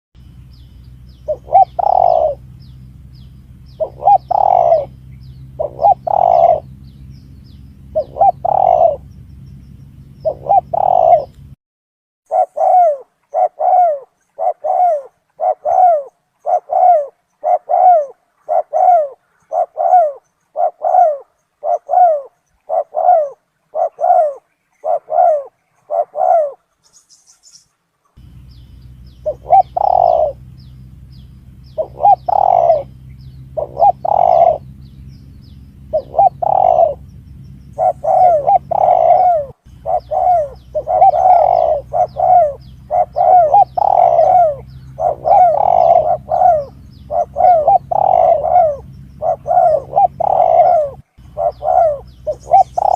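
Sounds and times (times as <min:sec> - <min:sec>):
low steady hum: 0:00.2 - 0:11.6, 0:12.3 - 0:52.9
recorded dove cooing: 0:00.4 - 0:11.6, 0:12.3 - 0:27.5, 0:28.1 - 0:52.9.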